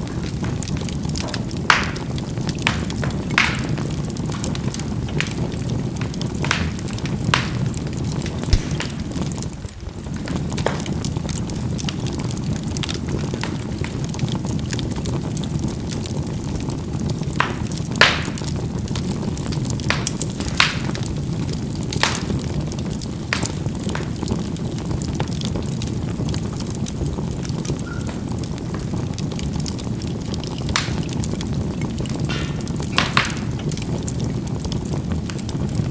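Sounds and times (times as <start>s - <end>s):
charcoal crackling and popping: 0.0s - 35.9s
flame rushing: 0.0s - 35.9s.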